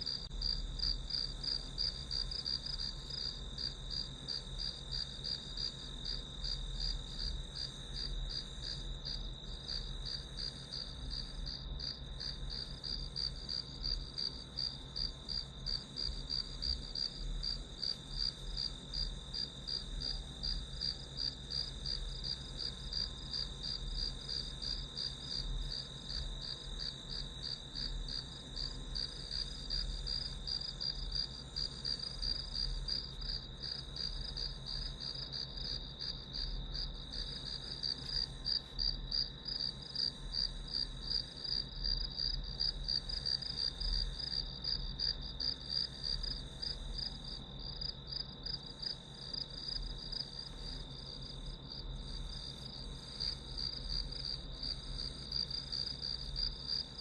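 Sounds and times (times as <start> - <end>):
crickets chirping: 0.1 - 57.0.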